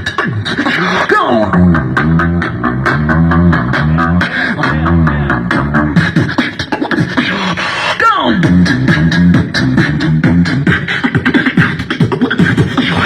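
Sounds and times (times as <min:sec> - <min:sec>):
person beatboxing: 0:00.0 - 0:13.0.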